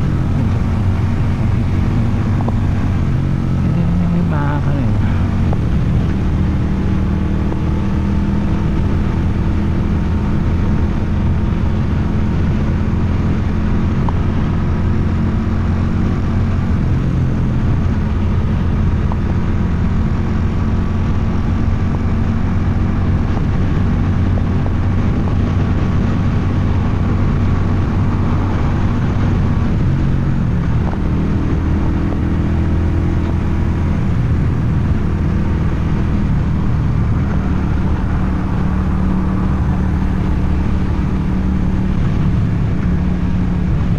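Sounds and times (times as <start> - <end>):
motorcycle engine running: 0.0 - 43.9
road noise: 0.0 - 43.9
wind noise: 0.0 - 43.9.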